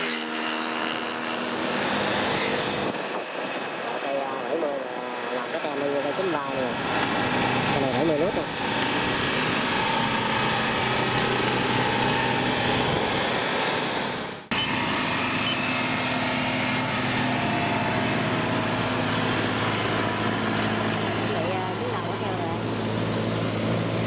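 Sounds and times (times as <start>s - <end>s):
diesel engine running: 1.1s - 24.0s.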